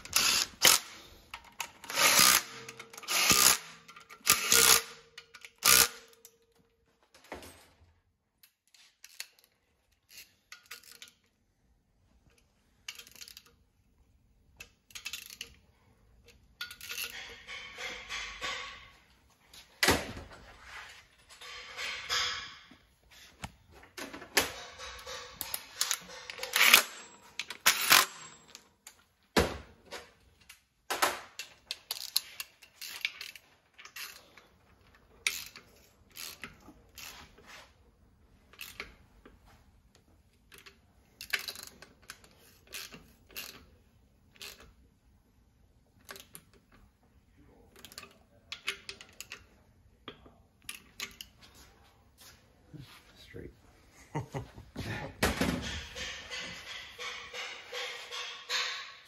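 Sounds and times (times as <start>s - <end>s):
tools and metal parts clinking: 0.0s - 29.2s, 29.8s - 44.8s, 45.8s - 52.4s, 54.9s - 59.0s.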